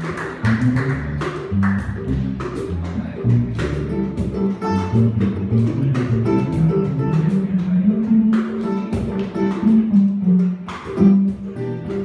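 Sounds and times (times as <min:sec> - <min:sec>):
cajon strokes: 0:00.0 - 0:12.0
electric upright bass: 0:00.0 - 0:12.0
guitar melody: 0:00.0 - 0:12.0.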